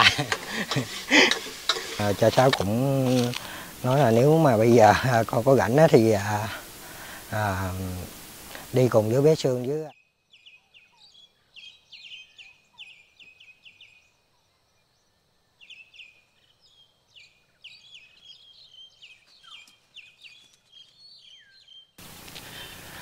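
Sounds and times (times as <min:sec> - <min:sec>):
faint bird chirping: 0:00.0 - 0:23.0.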